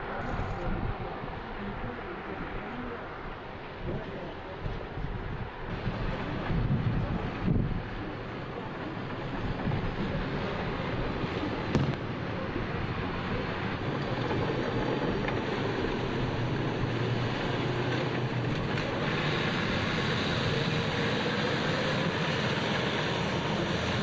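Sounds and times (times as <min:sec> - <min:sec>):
tracked vehicle engine and tracks: 0:00.0 - 0:24.0.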